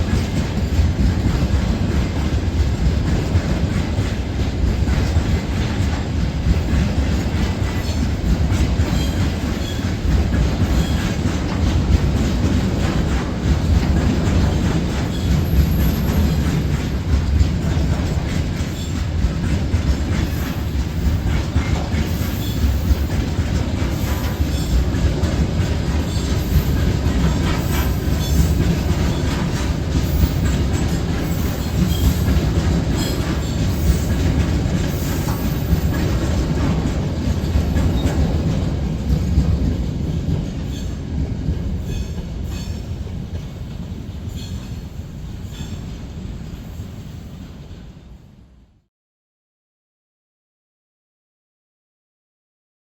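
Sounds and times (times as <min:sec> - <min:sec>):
wheels clacking over rail joints: 0:00.0 - 0:44.9
train rumbling past: 0:00.0 - 0:48.7.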